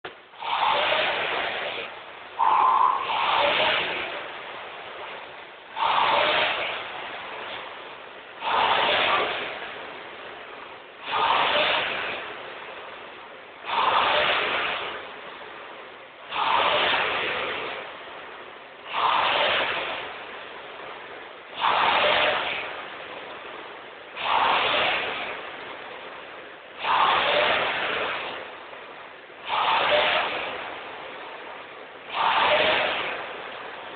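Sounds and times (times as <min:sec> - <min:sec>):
rowing machine flywheel whooshing: 0:00.0 - 0:33.9.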